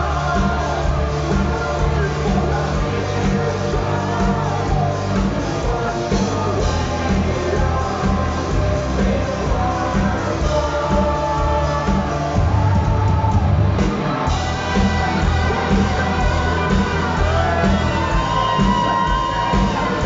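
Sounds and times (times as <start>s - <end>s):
man singing: 0.0s - 13.6s, 14.4s - 20.0s
rock band playing: 0.0s - 20.0s.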